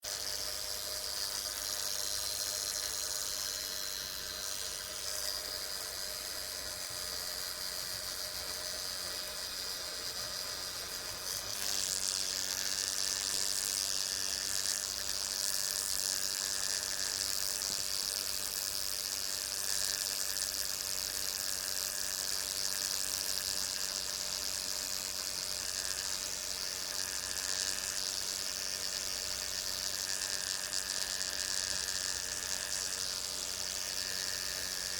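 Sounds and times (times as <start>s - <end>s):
insect wings buzzing: 0.0s - 34.9s.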